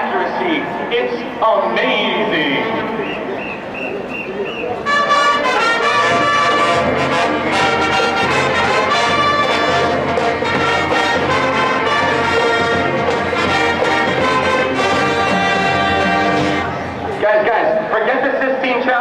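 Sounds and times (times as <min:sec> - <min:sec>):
marching band brass chords: 0:00.0 - 0:18.0.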